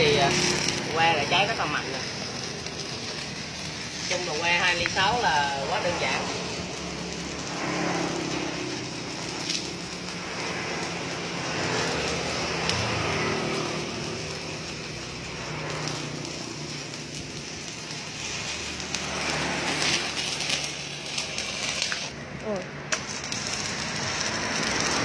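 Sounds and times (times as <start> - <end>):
welding arc crackling: 0.0 - 25.0.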